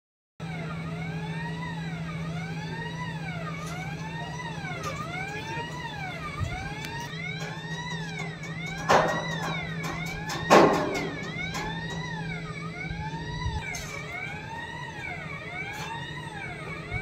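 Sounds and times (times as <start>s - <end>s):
siren wailing: 0.4s - 17.0s
steady low hum: 0.4s - 17.0s.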